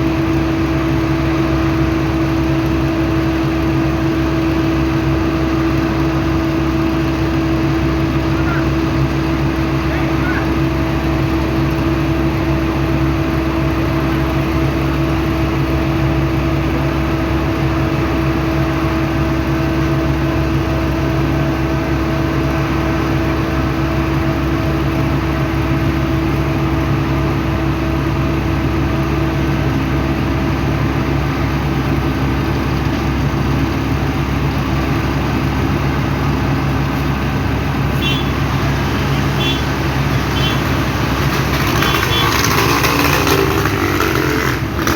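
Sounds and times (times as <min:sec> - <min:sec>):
motor engine droning: 0:00.0 - 0:44.9.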